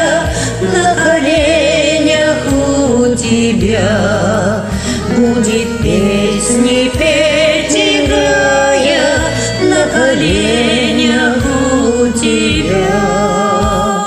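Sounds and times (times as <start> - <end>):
karaoke backing track: 0.0 - 14.0
woman singing with vibrato: 0.0 - 14.0.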